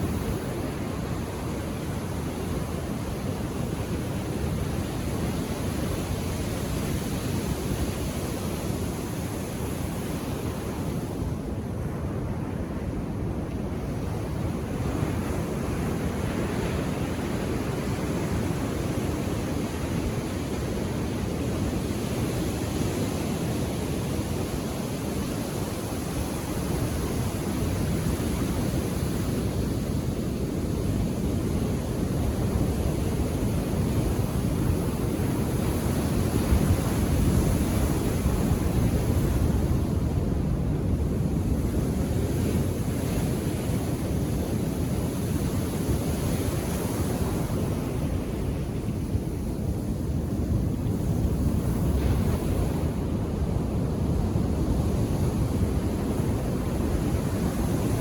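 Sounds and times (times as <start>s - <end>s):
surf washing on a beach: 0.0s - 58.0s.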